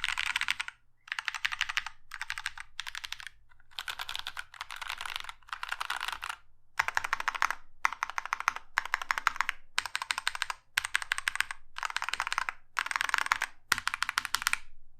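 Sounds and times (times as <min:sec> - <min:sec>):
fast typing on mechanical keyboard: 0:00.0 - 0:14.6.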